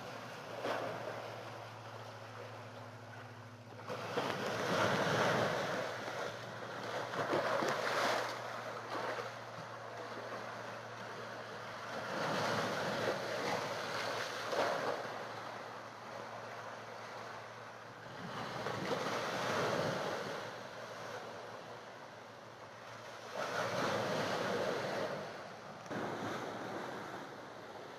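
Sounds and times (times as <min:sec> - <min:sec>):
sea waves washing against a seawall: 0:00.0 - 0:27.9
steady low hum: 0:00.0 - 0:27.9.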